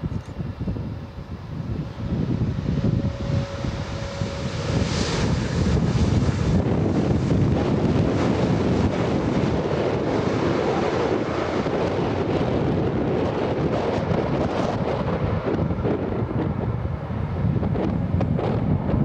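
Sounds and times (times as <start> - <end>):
jet engine rumble: 0.0 - 19.0
wind buffeting microphone: 0.0 - 19.0.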